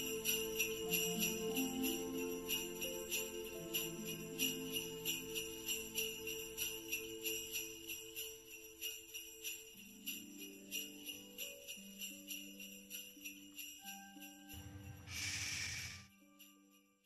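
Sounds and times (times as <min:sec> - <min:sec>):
christmas music: 0:00.0 - 0:17.0
jingle bells shaken: 0:00.0 - 0:17.0.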